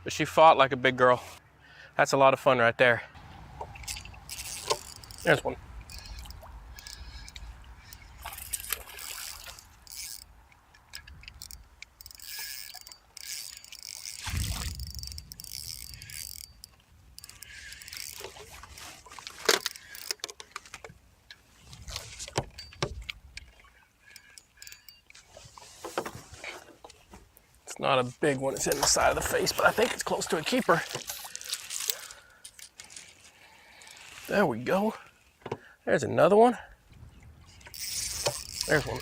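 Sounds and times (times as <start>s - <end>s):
boat handling clicks and rattles: 3.6s - 34.2s, 36.9s - 39.0s.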